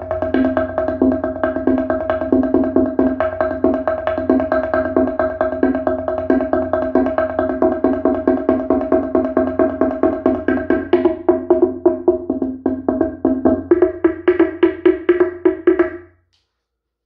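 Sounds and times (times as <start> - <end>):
wooden slit drum struck with mallets: 0.0 - 16.1.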